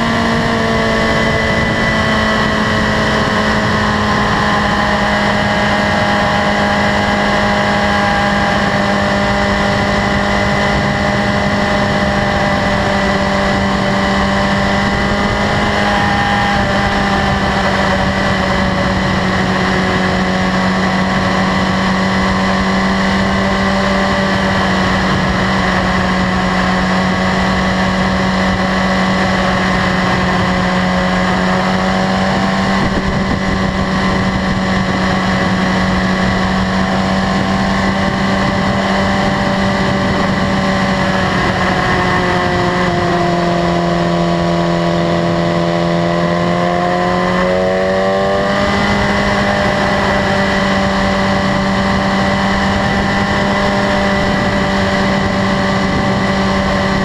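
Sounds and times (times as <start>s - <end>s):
motorcycle engine cruising: 0.0s - 57.0s
road noise: 0.0s - 57.0s
wind noise: 0.0s - 57.0s.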